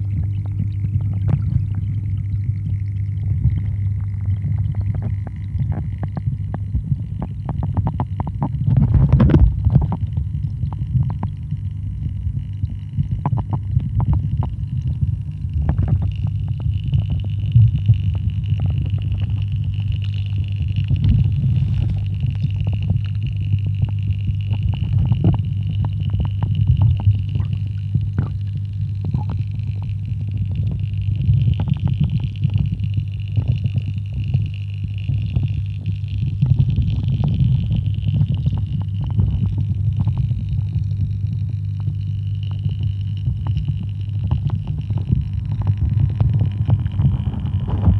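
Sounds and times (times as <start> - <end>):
faint high hum: 0.0 - 47.9
muffled underwater rumble: 0.0 - 47.9
small crackles and clicks: 0.0 - 47.9.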